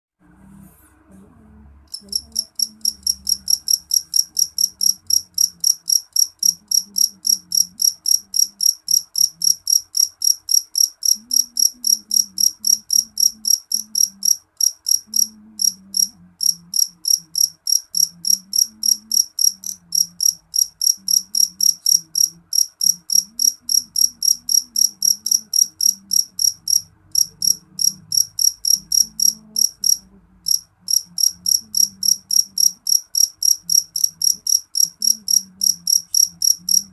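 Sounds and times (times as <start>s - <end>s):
cricket chirping: 1.9s - 36.9s.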